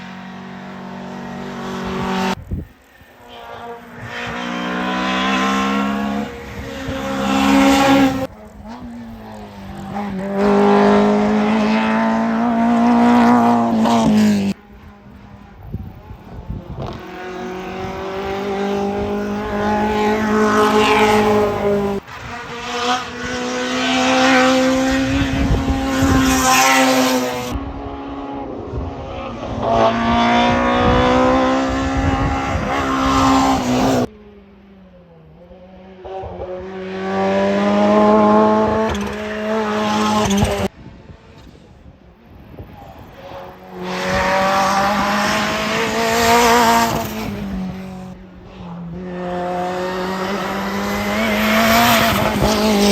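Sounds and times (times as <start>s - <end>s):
race car engines revving past: 0.0s - 52.9s.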